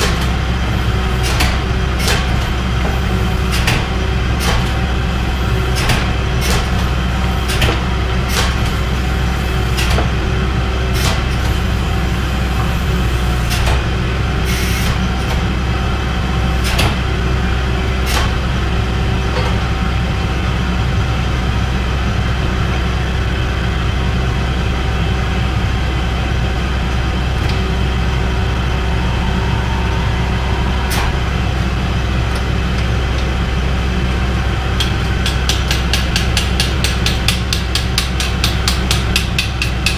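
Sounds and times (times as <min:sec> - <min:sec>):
hydraulic pump motor humming: 0:00.0 - 0:22.1, 0:24.4 - 0:39.9.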